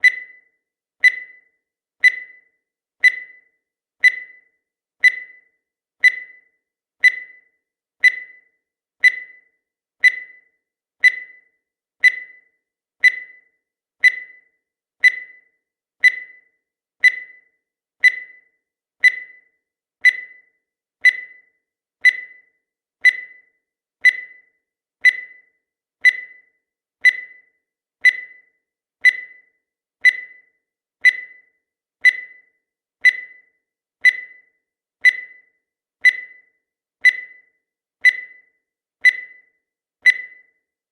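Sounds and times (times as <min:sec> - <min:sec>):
timer beeps: 0:00.0 - 0:40.9.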